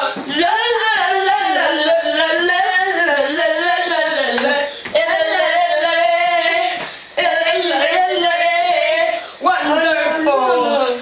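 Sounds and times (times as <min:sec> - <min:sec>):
boys singing unaccompanied: 0:00.0 - 0:11.0.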